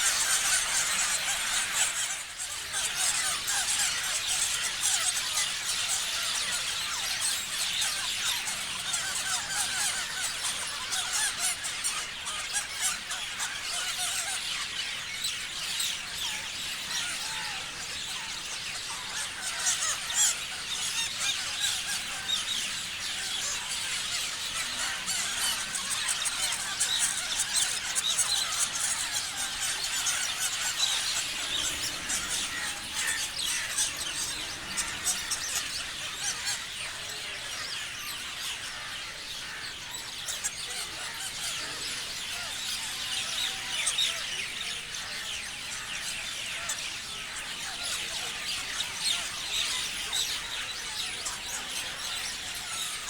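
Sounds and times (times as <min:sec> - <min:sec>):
parrots chirping and squealing: 0:00.0 - 0:44.2.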